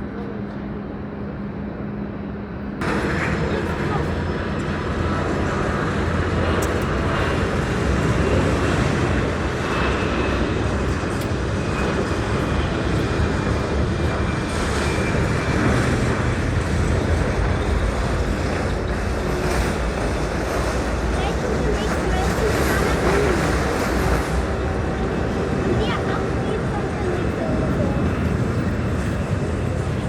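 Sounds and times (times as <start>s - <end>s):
engine rumble: 0.0s - 30.0s.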